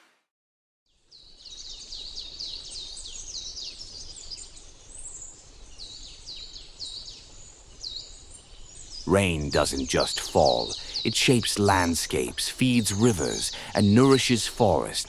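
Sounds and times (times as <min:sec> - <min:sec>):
birds chirping: 0:01.4 - 0:15.0.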